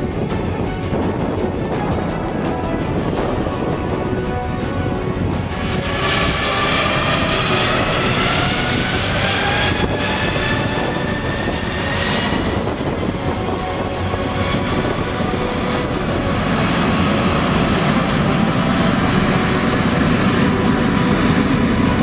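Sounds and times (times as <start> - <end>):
high fan whine: 0.0 - 22.0
jet engines spooling up: 0.0 - 22.0.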